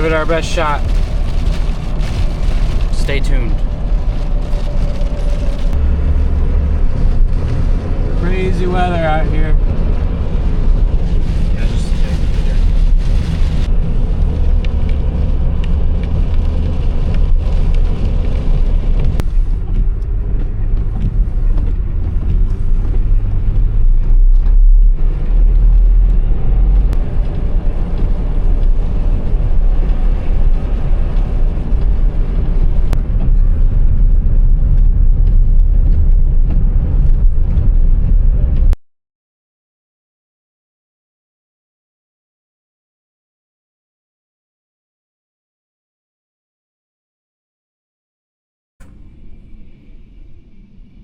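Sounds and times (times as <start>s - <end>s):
car cabin road rumble: 0.0s - 38.8s, 48.8s - 51.0s.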